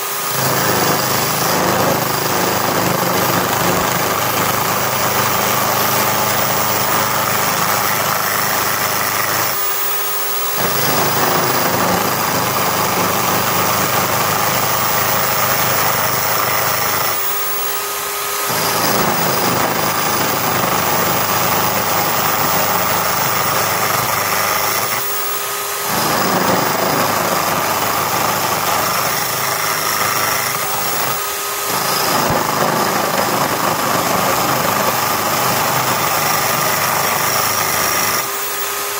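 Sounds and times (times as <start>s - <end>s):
chisel scraping spinning wood: 0.0s - 9.6s, 10.6s - 17.7s, 18.5s - 38.8s
electric drill motor whine: 0.0s - 38.9s.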